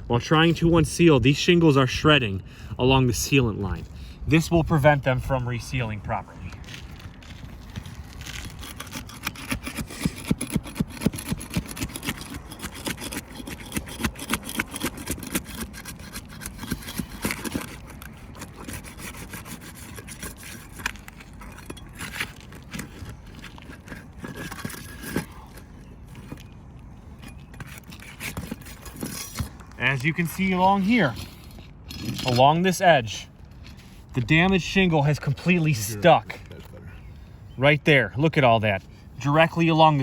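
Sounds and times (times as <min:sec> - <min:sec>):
shingles scraping and ripping: 0:03.9 - 0:36.6.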